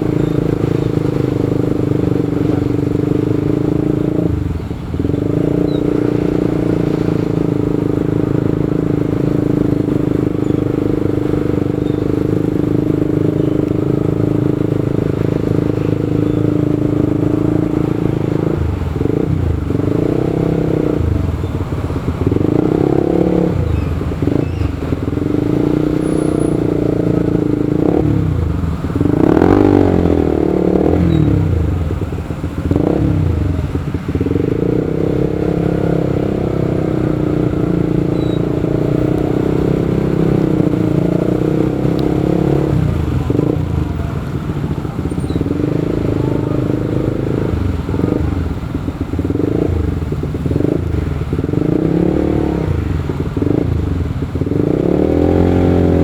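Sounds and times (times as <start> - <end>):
motorcycle engine revving: 0.0 - 56.0
vehicles passing by: 0.0 - 56.0.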